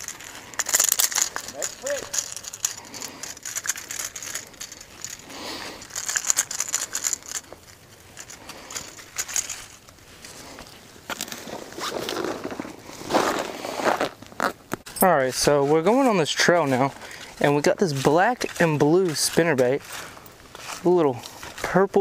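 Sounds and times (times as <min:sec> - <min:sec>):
dry leaves crunching underfoot: 0:00.0 - 0:22.0.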